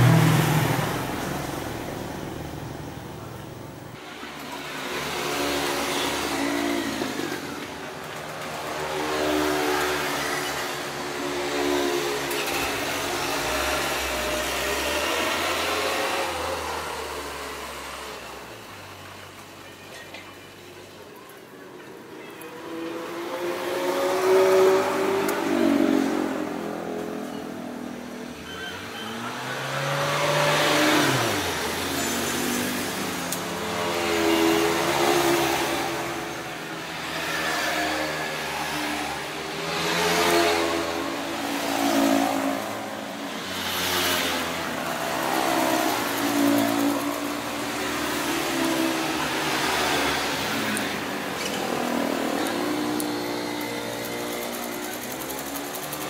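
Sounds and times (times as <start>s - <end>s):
vehicle engines passing by: 0.0s - 56.0s.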